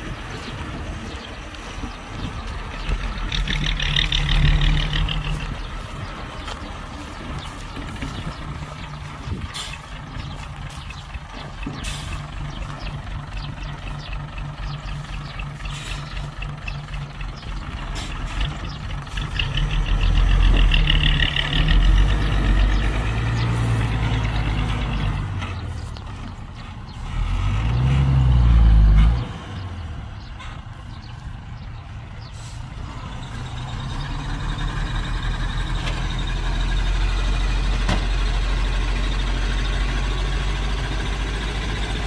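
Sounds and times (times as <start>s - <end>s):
diesel engine idling and revving: 0.0s - 42.0s.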